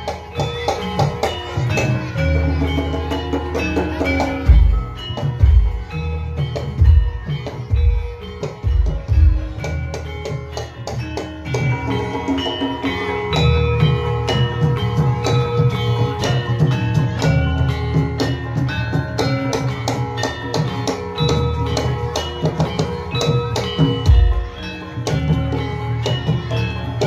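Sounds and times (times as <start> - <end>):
gamelan music: 0.0 - 27.0.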